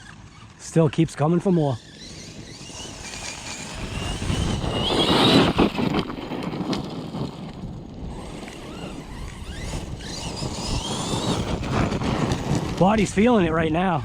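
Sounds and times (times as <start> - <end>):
electric motor whining: 0.0 - 13.2
tyres on dirt rushing: 0.0 - 14.0.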